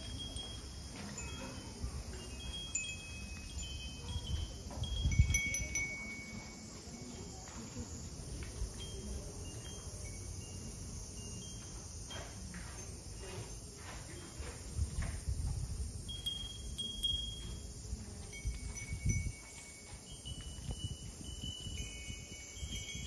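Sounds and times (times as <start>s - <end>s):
wind chimes tinkling: 0.0s - 23.0s.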